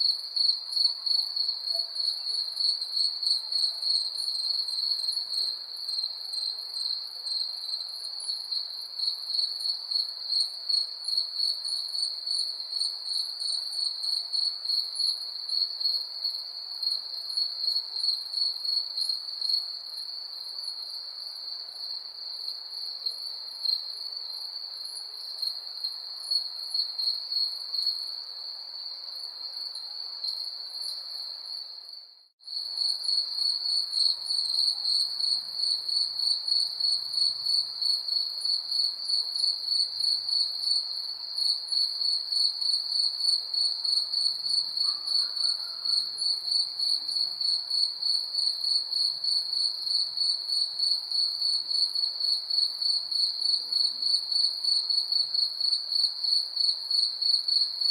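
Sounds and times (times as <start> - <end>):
crickets chirping: 0.0 - 57.9.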